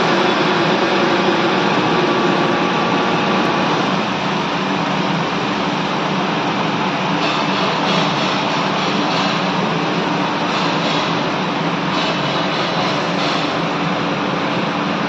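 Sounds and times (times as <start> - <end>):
plastic moulding machine running: 0.0 - 15.0.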